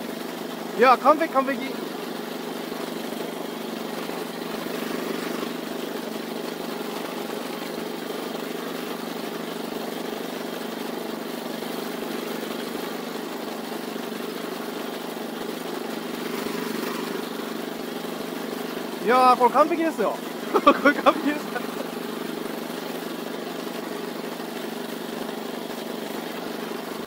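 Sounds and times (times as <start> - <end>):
small engine running steadily: 0.0 - 27.0.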